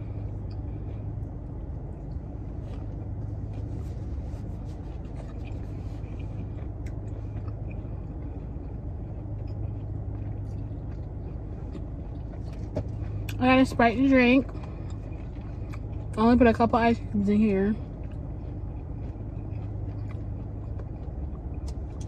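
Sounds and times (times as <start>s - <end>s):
person chewing food: 0.0s - 16.2s, 17.7s - 22.0s
car cabin hum: 0.0s - 22.0s.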